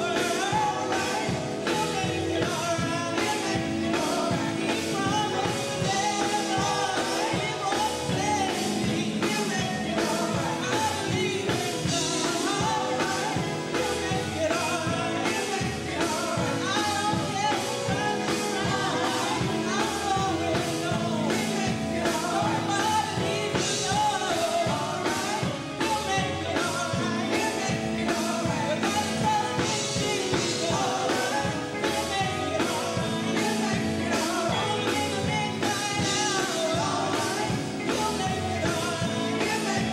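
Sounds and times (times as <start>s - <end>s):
band with drums and electric guitars: 0.0s - 39.9s
women singing gospel: 0.0s - 39.9s.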